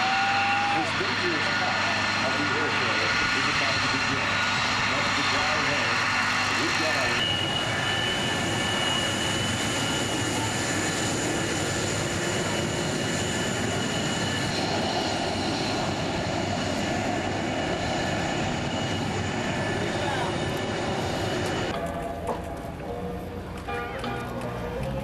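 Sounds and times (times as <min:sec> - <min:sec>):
jet engines whining: 0:00.0 - 0:23.6.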